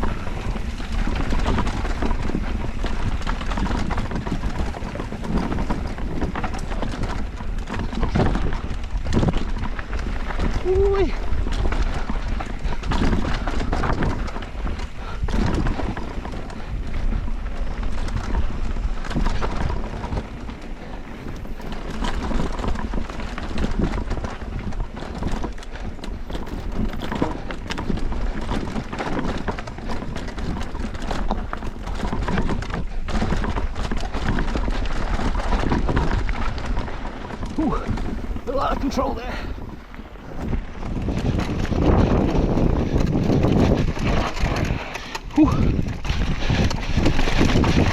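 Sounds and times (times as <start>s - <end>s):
bike rattling: 0.0s - 47.9s
tyres rolling over dirt and rocks: 0.0s - 47.9s
wind on microphone: 0.0s - 47.9s.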